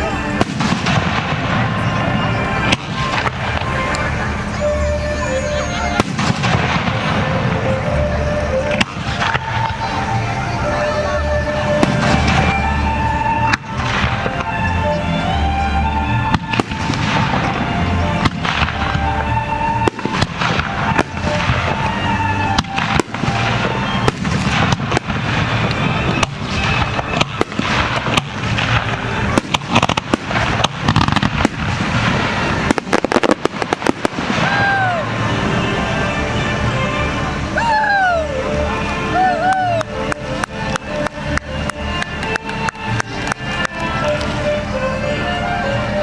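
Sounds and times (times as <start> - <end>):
firework shell bursts and crackles: 0.0 - 45.0.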